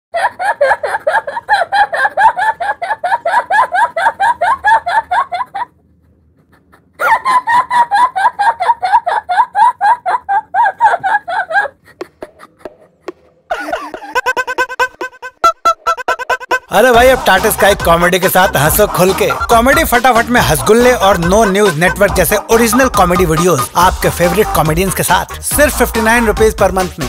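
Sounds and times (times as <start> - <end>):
woman laughing: 0.2 - 24.2.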